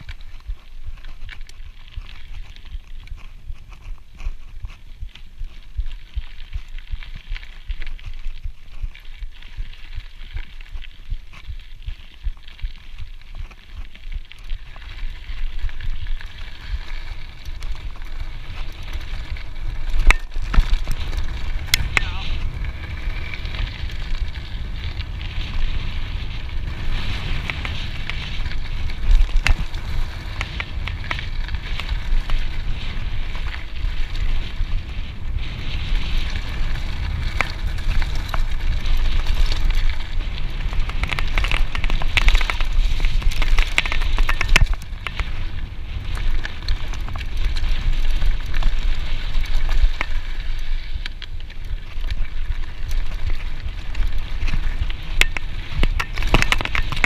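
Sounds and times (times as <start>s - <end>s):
bike clicks and rattles: 0.0s - 57.0s
bike tyre noise: 0.0s - 57.0s
wind buffeting microphone: 11.0s - 57.0s.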